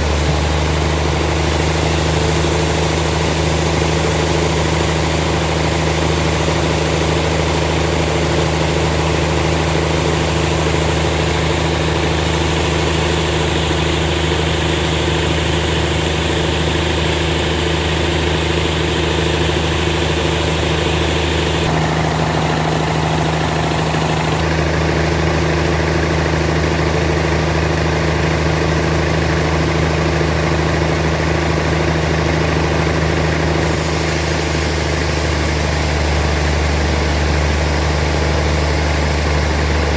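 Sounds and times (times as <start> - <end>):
sawmill machine engine droning: 0.0 - 39.9.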